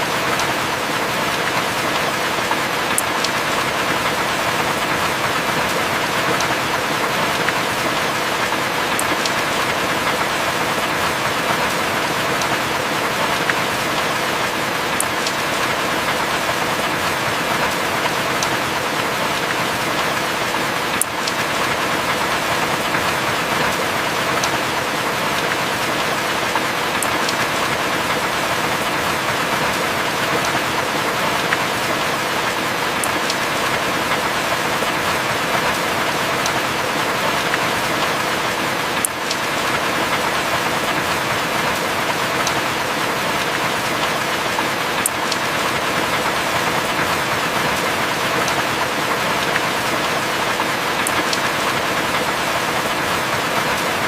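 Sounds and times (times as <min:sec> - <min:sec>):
heavy rain falling: 0:00.0 - 0:54.0
raindrop ticks: 0:00.1 - 0:28.3, 0:32.5 - 0:49.8, 0:50.5 - 0:54.0.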